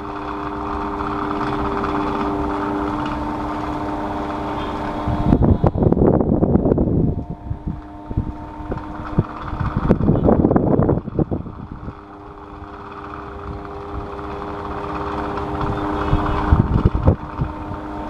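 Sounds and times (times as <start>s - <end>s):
electric fan motor hum: 0.0s - 18.0s
wind buffeting microphone: 0.0s - 18.0s.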